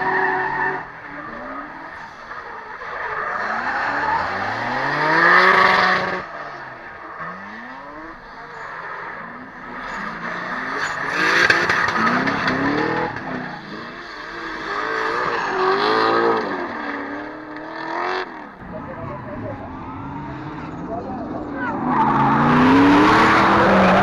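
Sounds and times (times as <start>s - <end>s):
car engines revving hard: 0.0s - 24.0s
tyres sliding and squealing: 0.0s - 24.0s.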